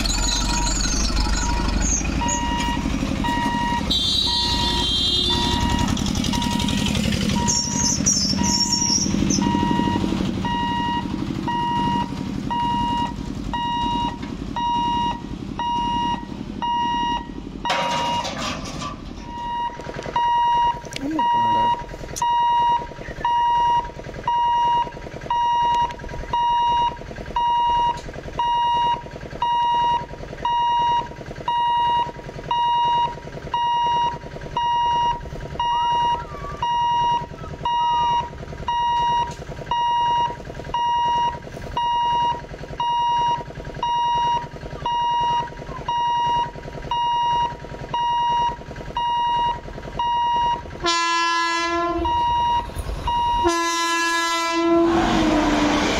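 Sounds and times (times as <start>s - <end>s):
level crossing electronic beeping: 0.0s - 18.4s, 19.3s - 50.6s, 52.1s - 53.5s.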